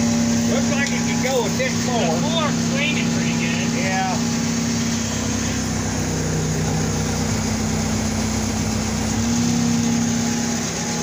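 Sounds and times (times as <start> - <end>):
skid steer engine under load: 0.0 - 11.0.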